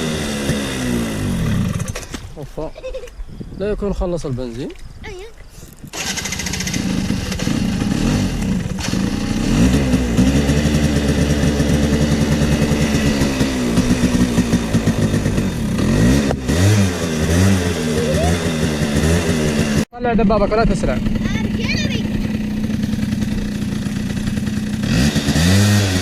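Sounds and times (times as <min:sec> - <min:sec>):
motorbike engine revving: 0:00.0 - 0:02.3, 0:05.9 - 0:26.0.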